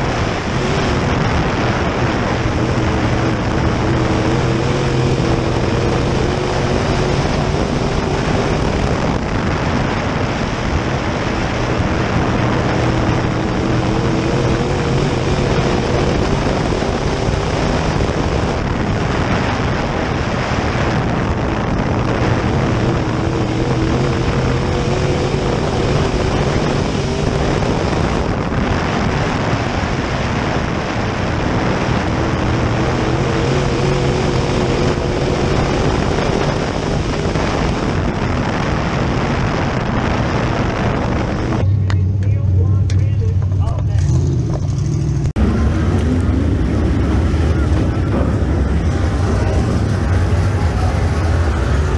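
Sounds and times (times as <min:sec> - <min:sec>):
wind rushing: 0:00.0 - 0:41.7, 0:43.4 - 0:51.9
race car engine running hard: 0:00.0 - 0:51.9.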